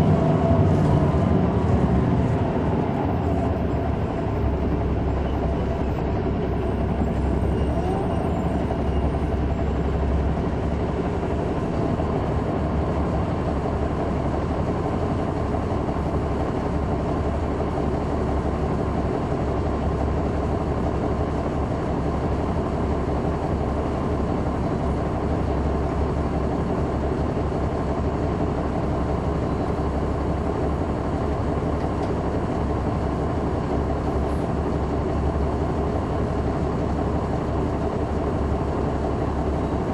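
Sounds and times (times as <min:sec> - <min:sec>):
bus diesel engine hum: 0:00.0 - 0:39.9
road rumble: 0:00.0 - 0:39.9.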